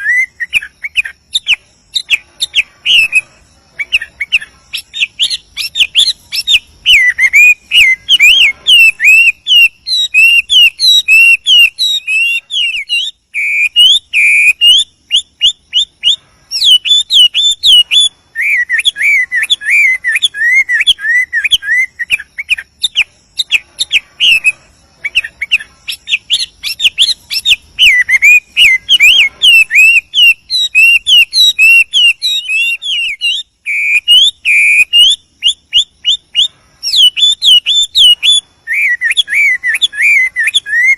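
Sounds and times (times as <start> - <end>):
bird singing whistled notes: 0.0 - 40.9.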